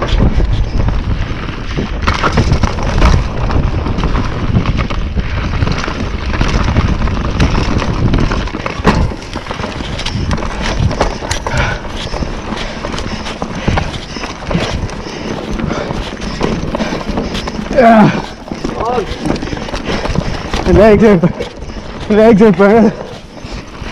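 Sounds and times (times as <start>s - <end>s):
wind on microphone: 0.0s - 22.3s
bike rattling over bumps: 0.0s - 23.9s
bike tyres crunching over dirt: 0.0s - 23.9s.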